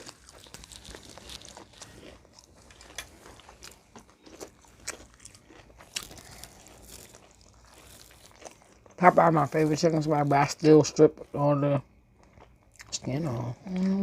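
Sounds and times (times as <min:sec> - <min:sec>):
wet chewing with crunches: 0:00.0 - 0:11.3, 0:12.0 - 0:14.0.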